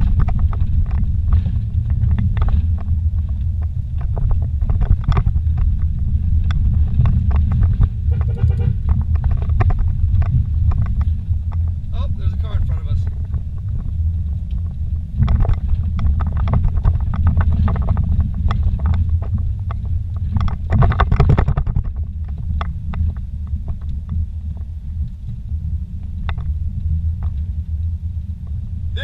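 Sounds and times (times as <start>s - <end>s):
engine and road rumble: 0.0s - 29.0s
rattling and clattering over bumps: 0.0s - 29.0s.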